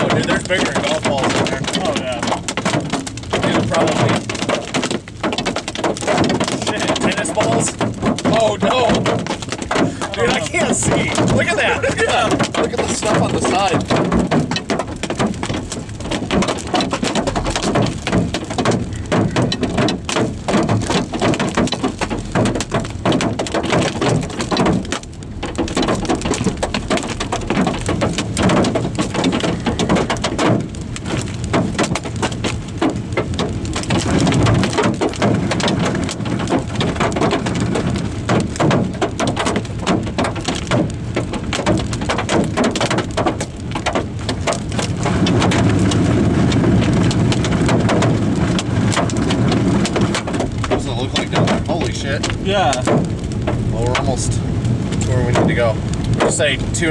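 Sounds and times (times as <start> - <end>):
hail and rain on car roof: 0.0 - 56.9.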